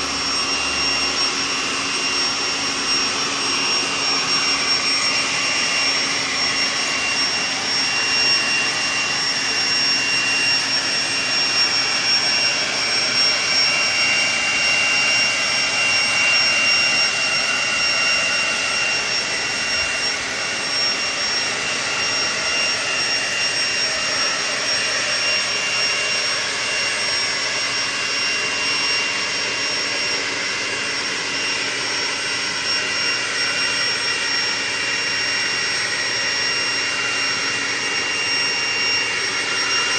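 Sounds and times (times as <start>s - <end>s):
leaf blower running: 0.0s - 39.9s.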